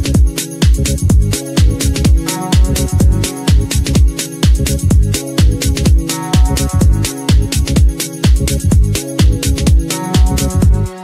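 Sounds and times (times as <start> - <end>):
sustained synth and bass: 0.0 - 11.0
techno kick drum: 0.0 - 11.0.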